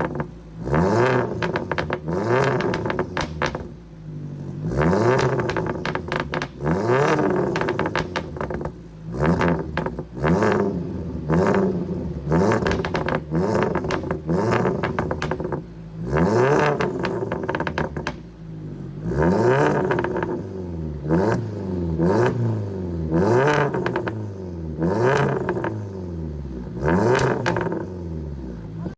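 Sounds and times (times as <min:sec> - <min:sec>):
exhaust crackles and pops: 0:00.0 - 0:25.9, 0:26.6 - 0:28.9
car engine revving: 0:00.0 - 0:28.9.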